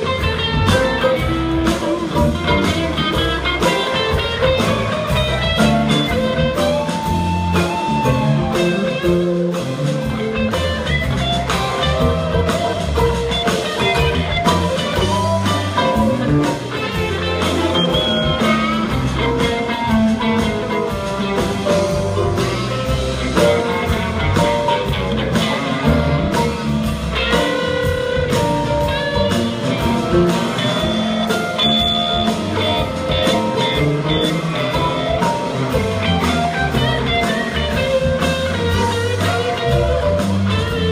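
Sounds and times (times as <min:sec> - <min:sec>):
live string band playing: 0:00.0 - 0:40.9.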